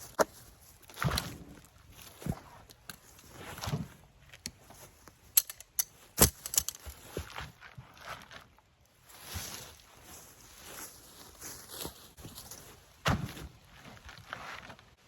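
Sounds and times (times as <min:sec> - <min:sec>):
footsteps in brush and leaves: 0:00.0 - 0:15.0.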